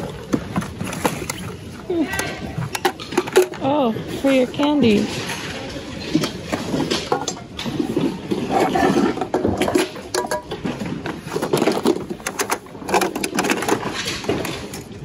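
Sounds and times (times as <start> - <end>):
objects clattering in a bin: 0.0 - 15.0.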